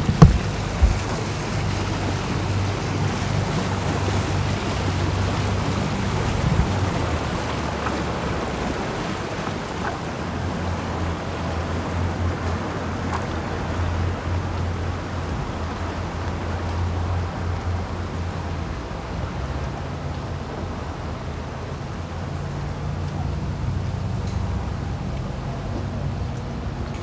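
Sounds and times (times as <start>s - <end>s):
outboard motors humming: 0.0s - 27.0s
wind and water hiss: 0.0s - 27.0s.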